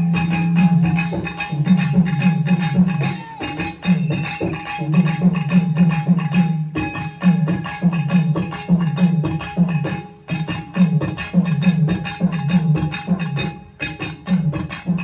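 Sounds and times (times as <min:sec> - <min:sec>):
folk drums beating fast rhythm: 0:00.0 - 0:15.0.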